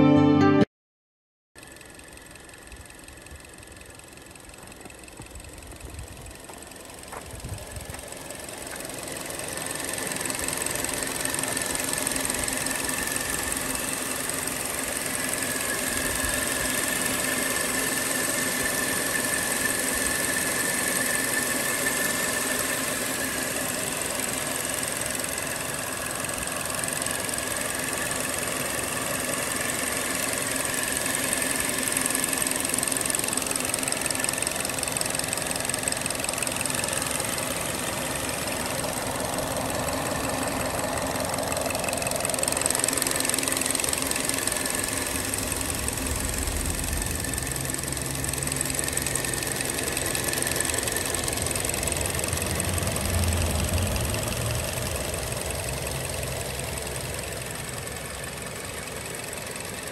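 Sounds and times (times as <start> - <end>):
car engine idling: 1.6 - 59.9.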